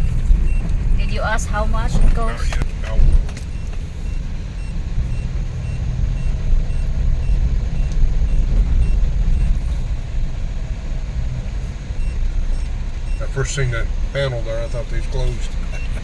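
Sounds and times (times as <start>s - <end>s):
engine and road noise in cabin: 0.0s - 16.0s.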